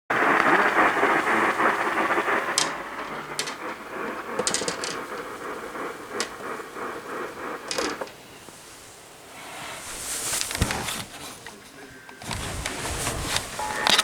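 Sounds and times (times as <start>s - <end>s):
radio static hiss: 0.1s - 14.0s
sharp static crackles: 0.1s - 14.0s.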